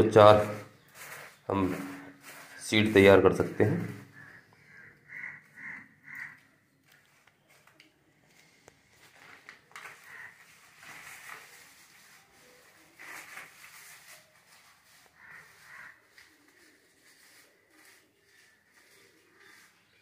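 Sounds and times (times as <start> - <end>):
fingers rustling and scraping soil: 0.0 - 20.0.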